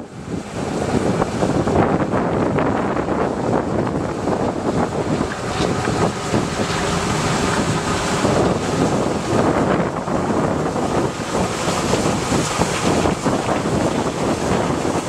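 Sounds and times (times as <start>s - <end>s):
combine harvester running: 0.0s - 15.0s
wind on microphone: 0.0s - 15.0s.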